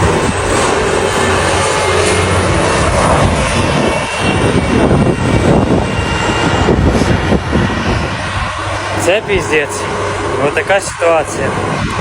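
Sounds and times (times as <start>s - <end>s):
diesel engine at full throttle: 0.0s - 12.0s.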